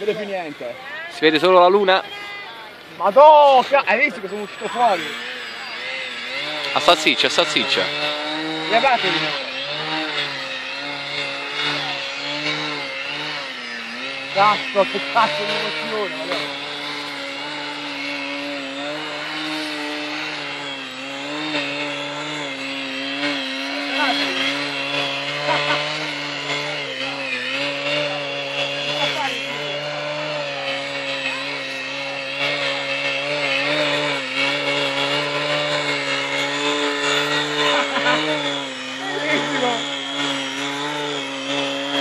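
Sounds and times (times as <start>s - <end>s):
model plane motor whine: 0.0s - 42.0s.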